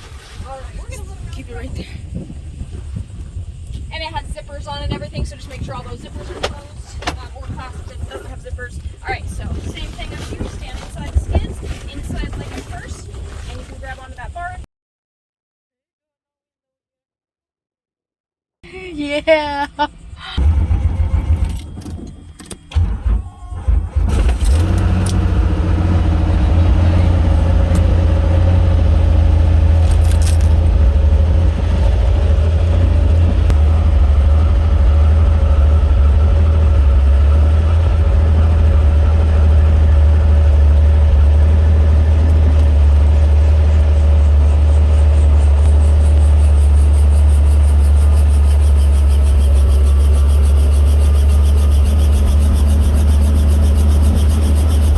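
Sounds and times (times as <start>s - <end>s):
helicopter rotor and engine rumble: 0.5s - 14.6s, 19.7s - 54.9s.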